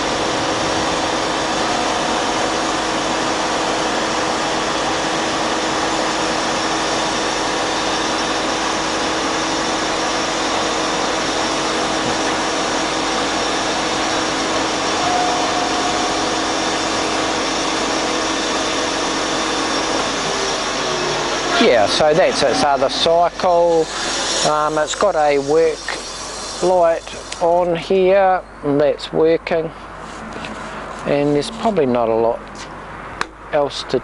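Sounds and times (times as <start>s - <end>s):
bandsaw machine hum: 0.0s - 28.4s.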